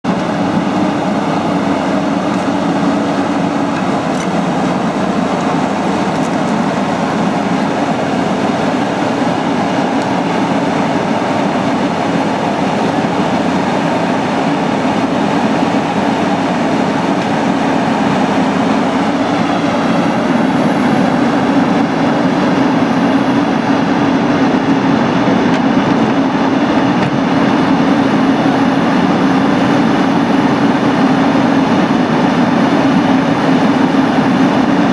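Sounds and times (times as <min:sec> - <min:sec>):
excavator diesel engine under load: 0:00.0 - 0:34.9.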